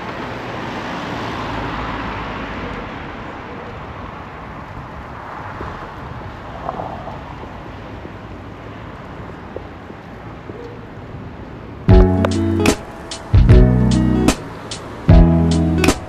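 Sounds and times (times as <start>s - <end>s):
car passing: 0.0s - 16.0s
low traffic hum: 0.0s - 16.0s.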